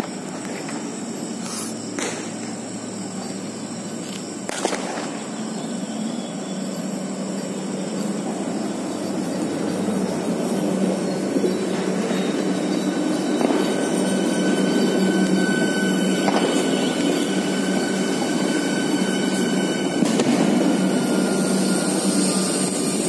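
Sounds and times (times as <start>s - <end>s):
low steady train hum: 0.0s - 23.0s
train wheels on rails: 0.0s - 23.0s.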